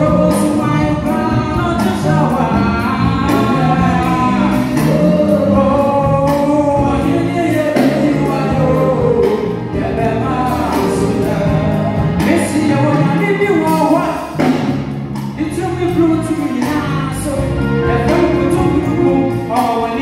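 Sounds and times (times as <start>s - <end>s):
man singing gospel into microphone: 0.0s - 14.6s, 15.3s - 20.0s
backing track with steady beat: 0.0s - 20.0s.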